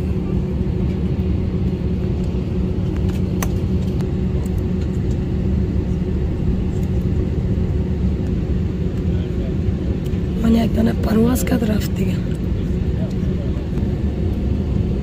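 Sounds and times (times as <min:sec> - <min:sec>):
jet engines rumbling: 0:00.0 - 0:15.0
steady cabin hum: 0:00.0 - 0:15.0.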